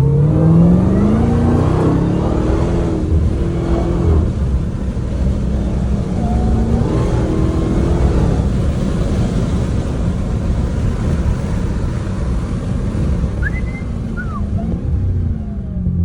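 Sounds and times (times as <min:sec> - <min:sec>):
car engine rumbling: 0:00.0 - 0:16.0
road noise inside car: 0:00.0 - 0:16.0.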